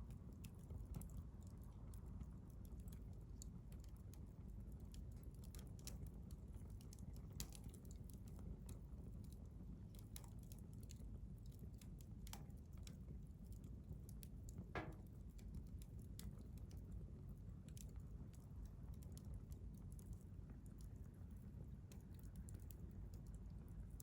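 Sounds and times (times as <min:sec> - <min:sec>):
low rumble of flames: 0:00.0 - 0:24.0.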